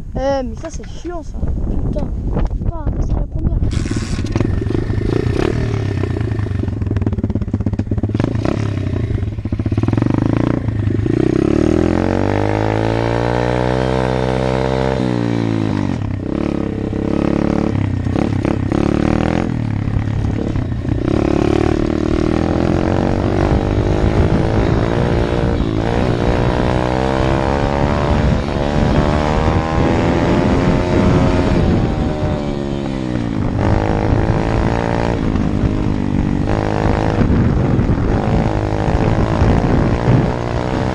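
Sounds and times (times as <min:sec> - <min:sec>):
road noise: 0:00.0 - 0:40.9
wind noise: 0:00.0 - 0:40.9
dirt bike engine revving: 0:03.7 - 0:40.9.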